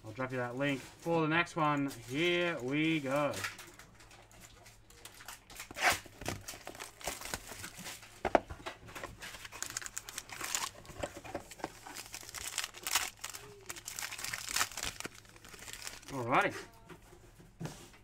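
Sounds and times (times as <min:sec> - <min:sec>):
foil packs crinkling and tearing: 0:00.5 - 0:08.2, 0:08.9 - 0:16.5.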